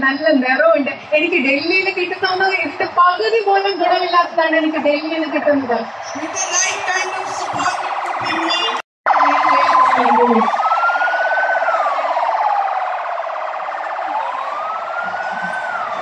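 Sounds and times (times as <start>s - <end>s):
emergency siren wailing: 2.0s - 16.0s.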